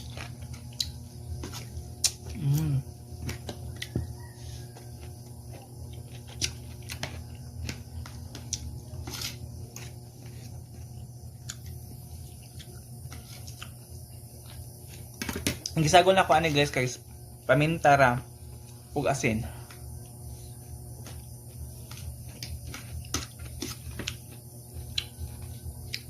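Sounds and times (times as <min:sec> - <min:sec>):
chewing with soft squelches: 0:00.0 - 0:15.8, 0:19.6 - 0:26.0
steady low hum: 0:00.0 - 0:26.0.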